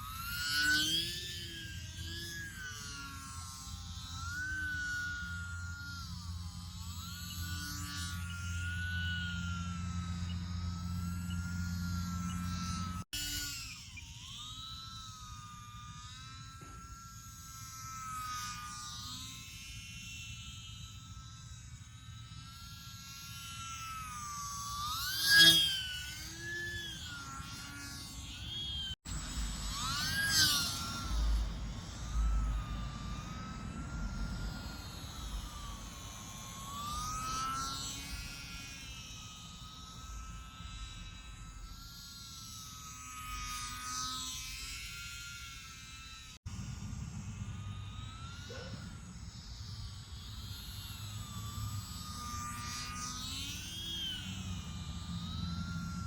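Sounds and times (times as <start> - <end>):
model plane motor and propeller whine: 0.0 - 56.0.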